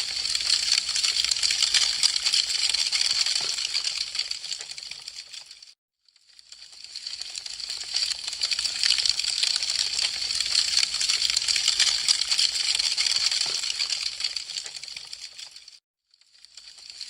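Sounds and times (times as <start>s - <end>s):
wood fire crackling: 0.0s - 5.7s, 6.6s - 15.8s.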